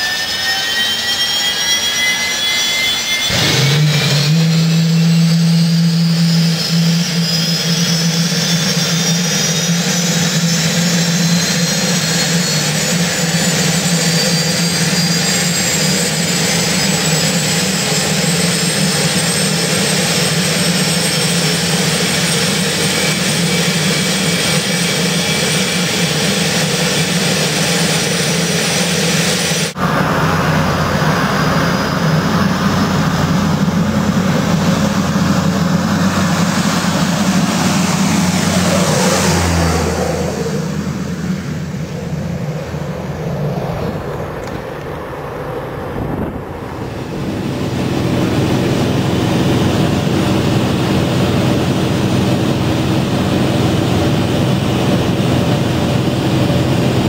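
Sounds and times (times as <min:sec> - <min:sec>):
turbine engine whine: 0:00.0 - 0:57.0.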